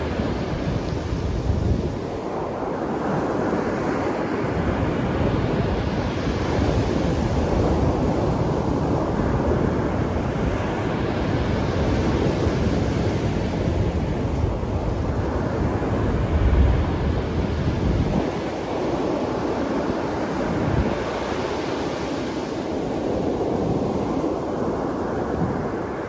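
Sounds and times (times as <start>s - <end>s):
surf washing onto beach: 0.0s - 26.0s
wind buffeting microphone: 0.0s - 26.0s.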